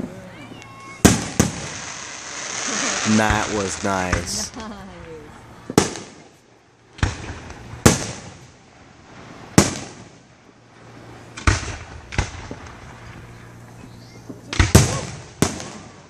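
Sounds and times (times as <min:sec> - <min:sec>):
fireworks bangs: 0:00.0 - 0:10.3, 0:11.4 - 0:13.2, 0:14.3 - 0:16.0.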